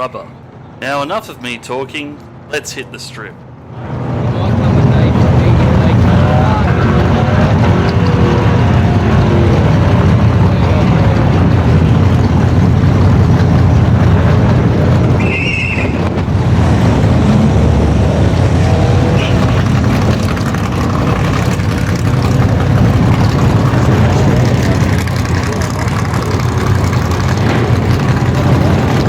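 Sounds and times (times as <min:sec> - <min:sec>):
car engine at full throttle: 0:03.5 - 0:29.0.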